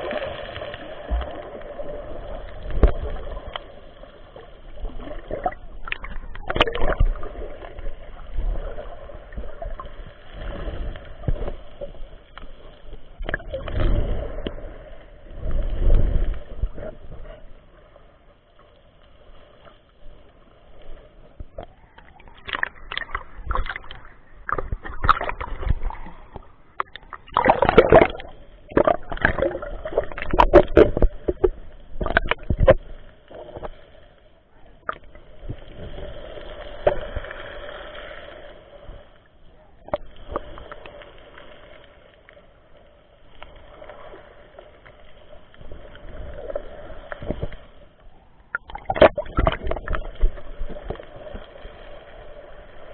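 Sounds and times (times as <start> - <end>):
underwater sloshing and gurgling: 0.0 - 52.9.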